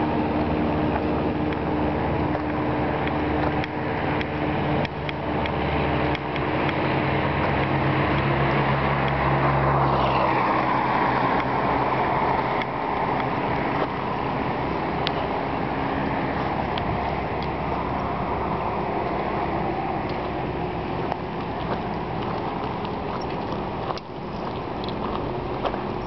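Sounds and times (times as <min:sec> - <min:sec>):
engine humming: 0:00.0 - 0:26.0
rushing sound with falling whine: 0:00.0 - 0:26.0.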